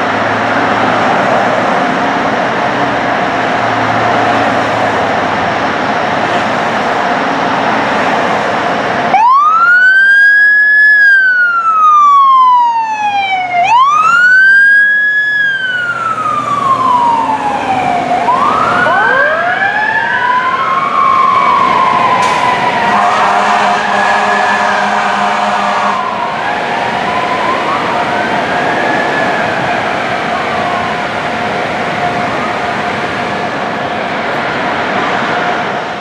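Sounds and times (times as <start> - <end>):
engine noise: 0.0 - 36.0
fire engine siren wailing: 0.0 - 36.0.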